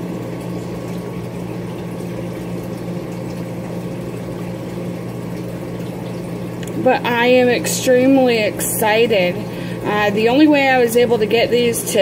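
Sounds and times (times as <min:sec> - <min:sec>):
low hum of pumps: 0:00.0 - 0:12.0
water bubbling in filters: 0:00.0 - 0:12.0.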